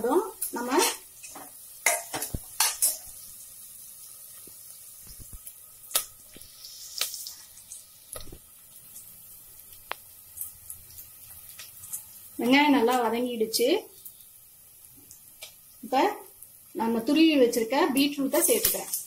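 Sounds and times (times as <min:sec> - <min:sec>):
onions sizzling in hot oil: 0:00.0 - 0:19.0
oil popping and crackling: 0:00.3 - 0:16.8, 0:18.1 - 0:19.0.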